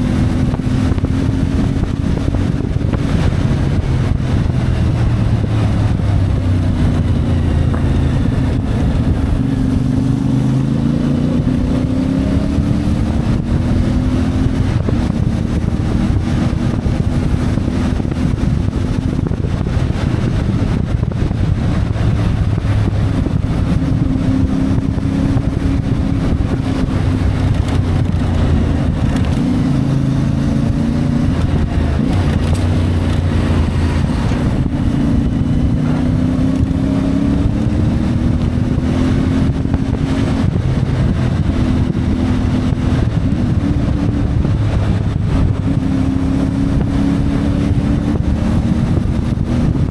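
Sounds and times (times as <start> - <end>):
motorcycle engine revving: 0.0 - 49.9
wind buffeting microphone: 0.0 - 49.9.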